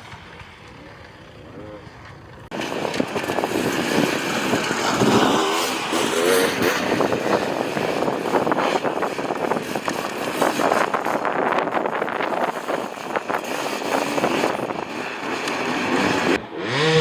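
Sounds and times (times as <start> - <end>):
dirt bike engine revving: 0.0 - 17.0
dense rattly noise: 1.9 - 16.4.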